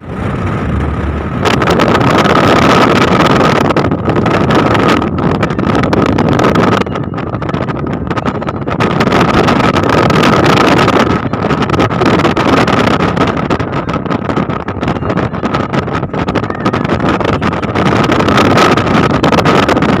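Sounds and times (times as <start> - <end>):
car road noise: 0.0 - 20.0
wind rushing over microphone: 0.0 - 20.0.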